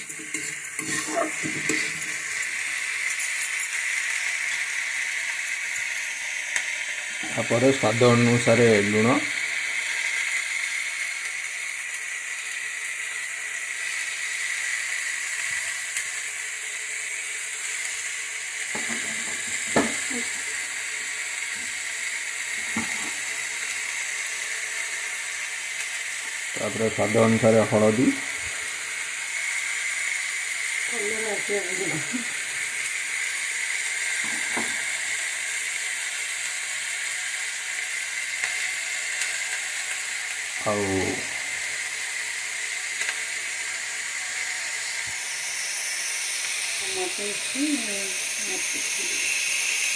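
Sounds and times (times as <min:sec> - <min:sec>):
vegetables sizzling in oil: 0:00.0 - 0:49.9.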